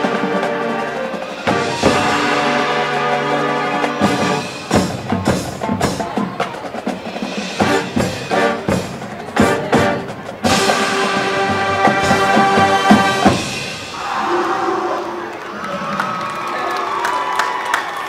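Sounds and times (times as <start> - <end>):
percussion hits: 0.0 - 14.6
marching band brass chord: 0.0 - 15.2.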